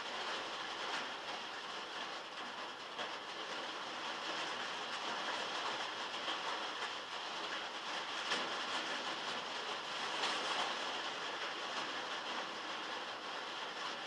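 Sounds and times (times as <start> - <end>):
heavy rain on a metal roof: 0.0 - 14.0.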